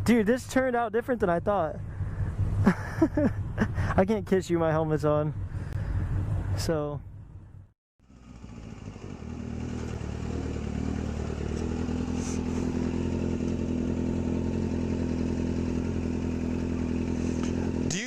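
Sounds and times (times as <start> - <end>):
motorcycle engine running: 1.2 - 18.0.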